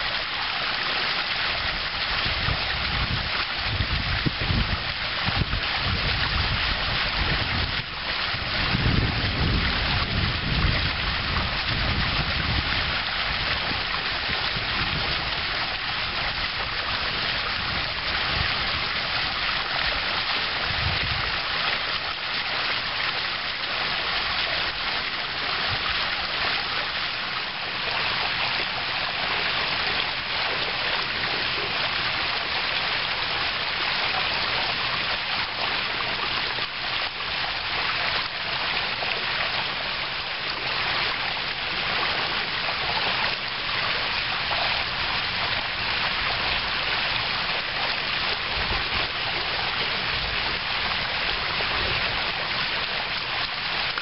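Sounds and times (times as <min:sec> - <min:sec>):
wind rumbling on microphone: 0:01.3 - 0:27.1, 0:33.4 - 0:54.0.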